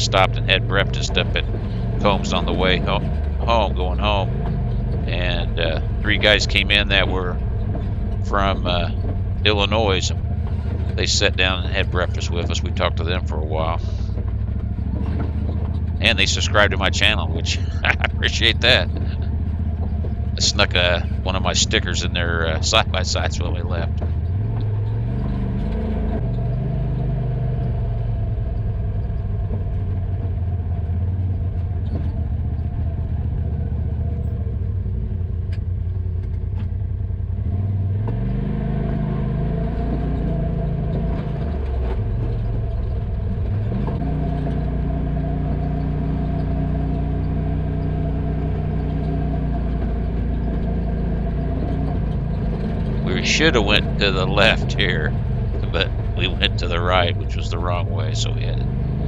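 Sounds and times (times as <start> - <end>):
utility vehicle engine running: 0.0 - 59.0.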